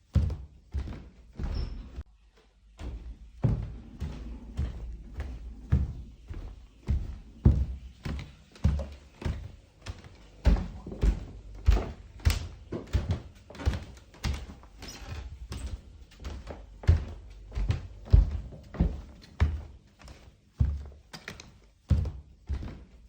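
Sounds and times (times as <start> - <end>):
heavy thudding footsteps: 0.0 - 23.0.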